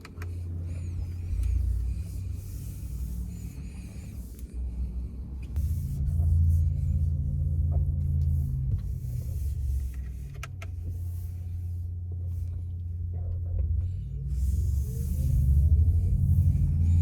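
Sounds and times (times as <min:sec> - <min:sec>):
road and tyre noise in car: 0:00.0 - 0:17.0.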